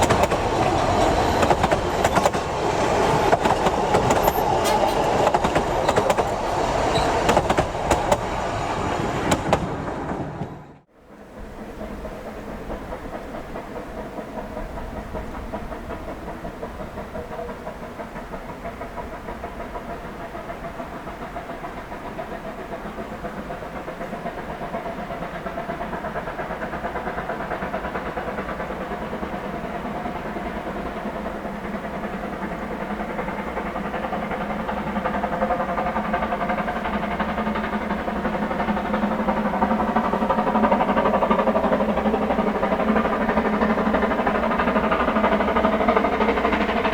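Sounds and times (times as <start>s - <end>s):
steam train running: 0.0s - 46.9s.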